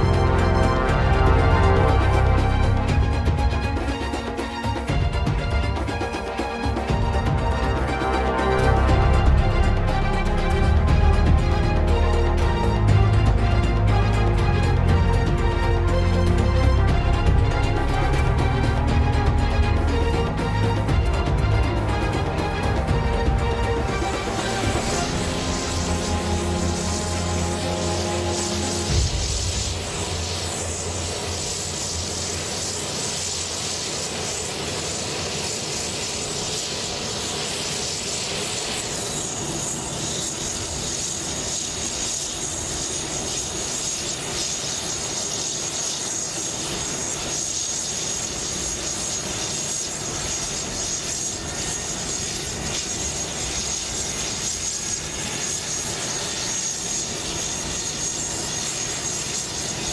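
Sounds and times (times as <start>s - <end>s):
helicopter turbine whine: 0.0s - 59.9s.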